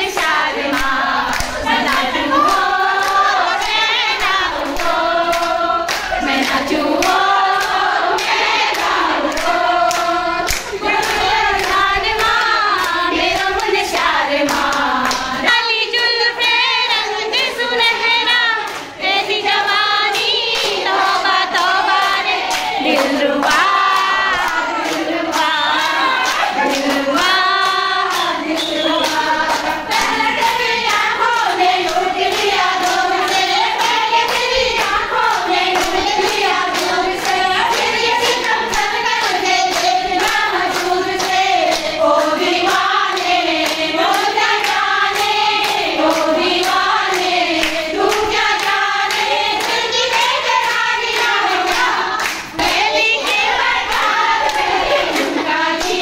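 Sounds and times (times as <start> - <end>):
rhythmic hand-clapping: 0.0 - 56.0
women singing together: 0.0 - 56.0.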